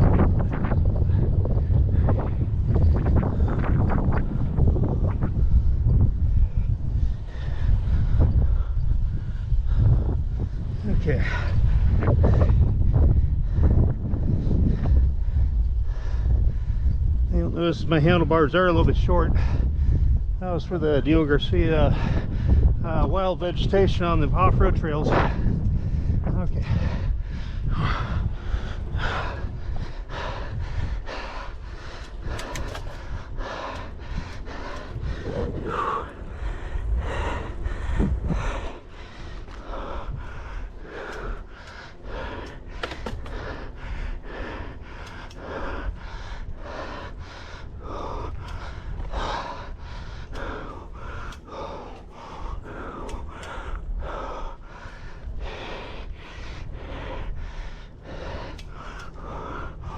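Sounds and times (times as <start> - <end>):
cyclist heavy breathing: 0.0 - 59.9
low rumble: 0.0 - 59.9.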